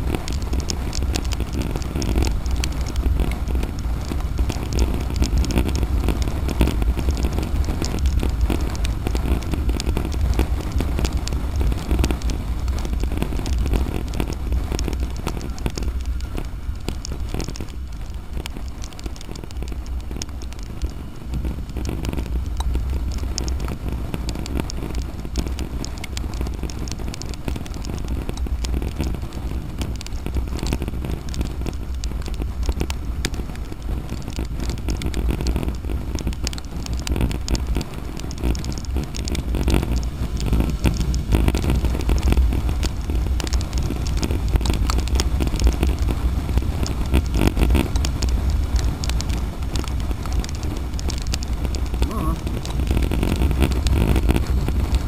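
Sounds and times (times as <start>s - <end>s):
raindrops striking camera: 0.0s - 55.0s
wind rumble on microphone: 0.0s - 55.0s.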